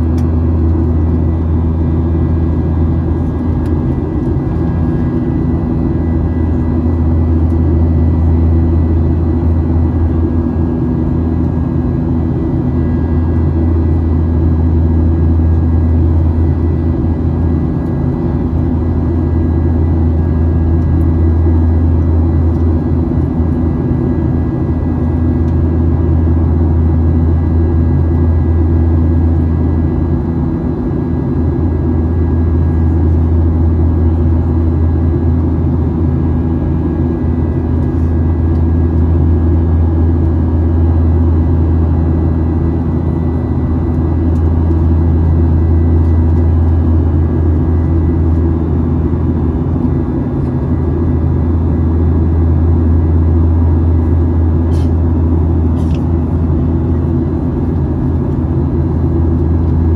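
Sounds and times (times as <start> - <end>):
airplane cabin engine drone: 0.0 - 59.9
faint high engine whine: 0.0 - 59.9.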